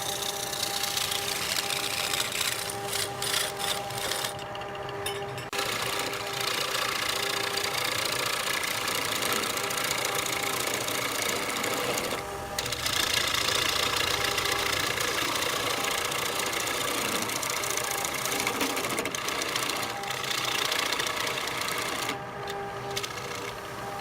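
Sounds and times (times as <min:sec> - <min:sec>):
wood lathe motor whine: 0:00.0 - 0:24.0.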